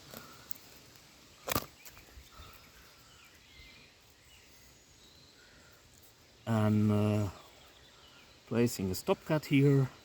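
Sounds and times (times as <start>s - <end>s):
faint bird chirps: 0.1s - 10.0s.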